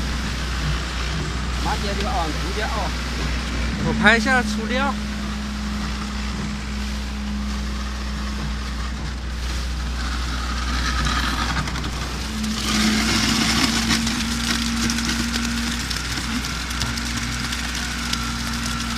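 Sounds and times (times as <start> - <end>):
diesel engine humming: 0.0 - 18.9
rough grinding noise: 0.0 - 18.9.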